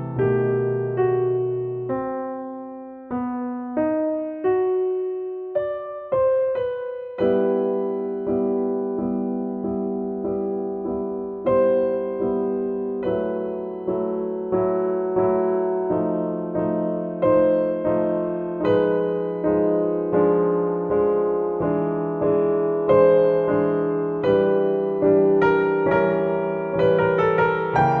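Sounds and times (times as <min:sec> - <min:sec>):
slow gentle piano music: 0:00.0 - 0:28.0.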